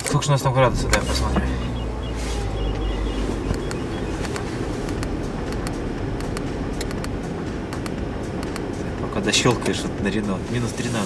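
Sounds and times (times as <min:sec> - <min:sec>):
car engine idling: 0:00.1 - 0:11.0.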